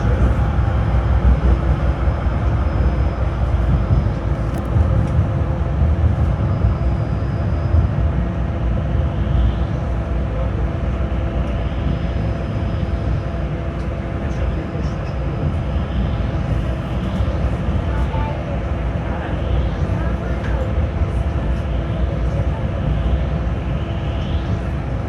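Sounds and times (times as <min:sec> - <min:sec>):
steady hum: 0:00.0 - 0:25.0
tram wheels rumbling on rails: 0:00.0 - 0:25.0.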